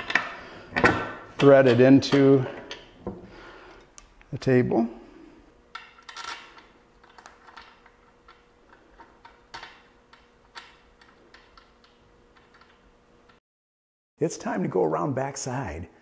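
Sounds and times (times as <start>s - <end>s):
faint steady hum: 0.0s - 13.4s.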